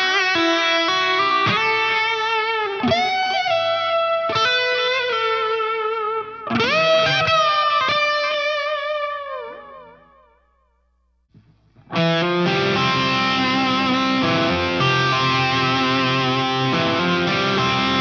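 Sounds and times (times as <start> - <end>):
overdriven electric guitar notes: 0.0 - 10.7, 11.7 - 18.0.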